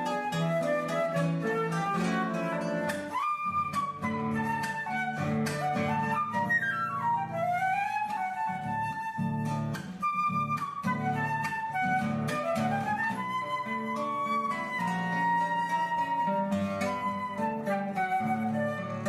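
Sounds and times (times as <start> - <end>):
flute melody: 0.0 - 19.0.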